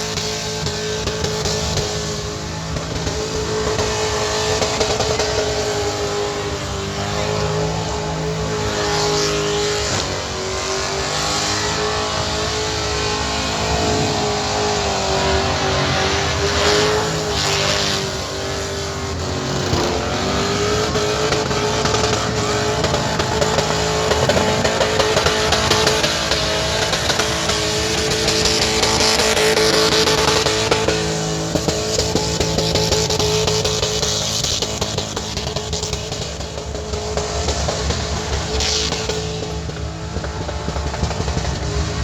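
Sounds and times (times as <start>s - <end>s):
car engine at high revs: 0.0s - 42.0s.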